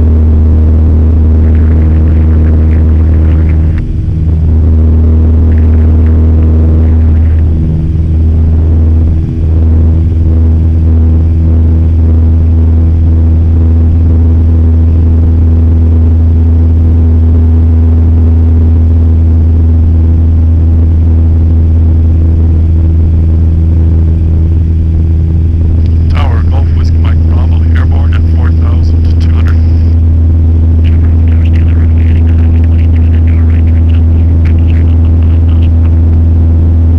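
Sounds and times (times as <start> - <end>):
airplane engine and propeller drone: 0.0 - 36.9.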